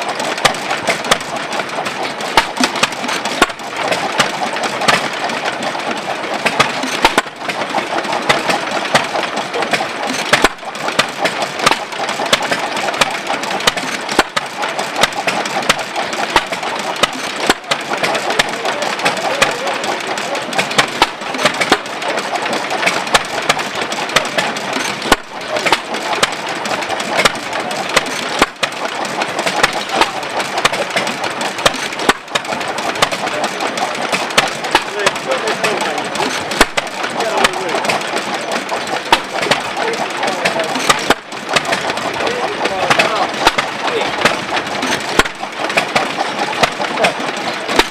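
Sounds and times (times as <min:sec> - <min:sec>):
hit-and-miss engine firing: 0:00.0 - 0:47.9.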